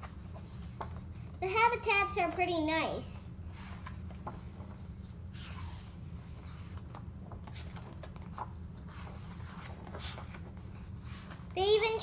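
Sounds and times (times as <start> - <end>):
book pages rustling: 0.0 - 1.4, 3.4 - 11.9
steady low hum: 0.0 - 12.0.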